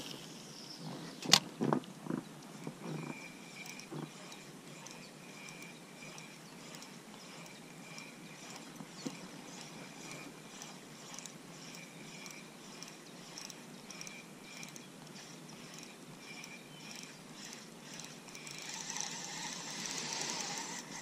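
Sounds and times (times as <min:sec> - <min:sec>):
fishing reel ticking: 0:02.4 - 0:21.0.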